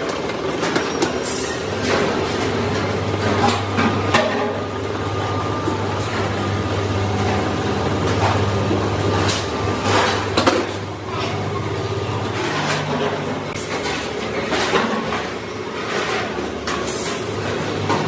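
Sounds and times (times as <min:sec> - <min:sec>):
factory machine hum: 0:00.0 - 0:18.0.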